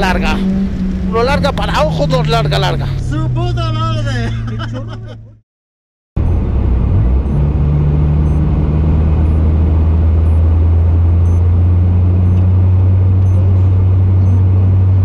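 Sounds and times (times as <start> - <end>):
car engine running steadily: 0.0 - 5.4, 6.2 - 15.0.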